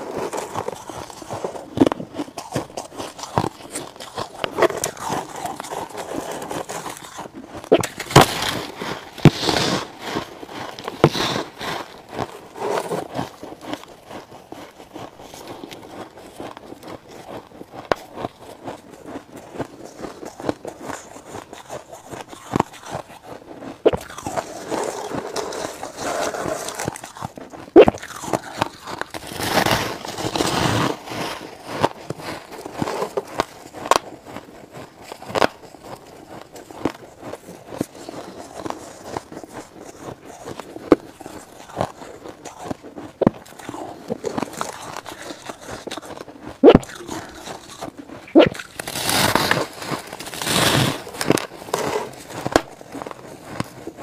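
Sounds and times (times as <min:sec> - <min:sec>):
crunching ice: 0:00.0 - 0:54.0.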